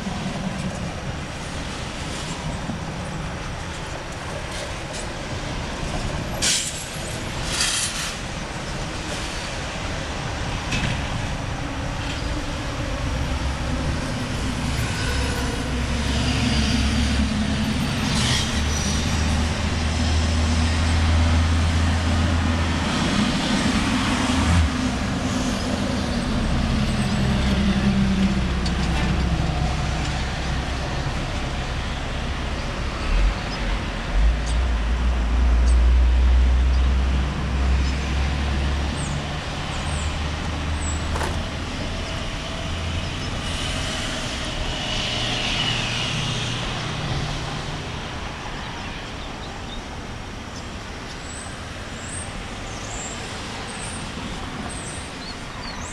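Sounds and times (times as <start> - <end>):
vehicle engines humming: 0.0 - 55.9.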